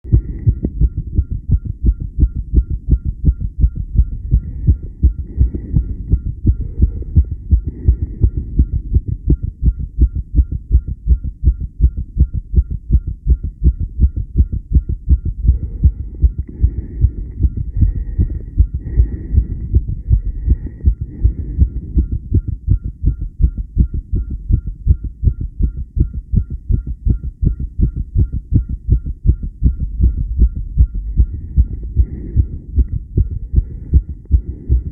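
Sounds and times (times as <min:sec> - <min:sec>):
heart beating fast: 0:00.0 - 0:34.9.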